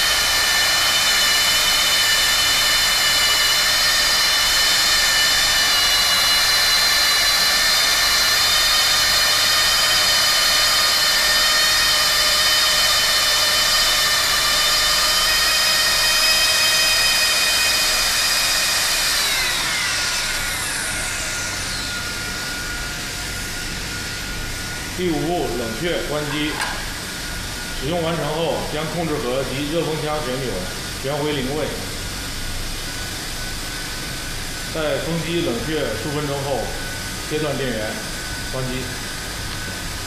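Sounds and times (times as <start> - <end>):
hot-air gun blower whine: 0.0 - 40.0.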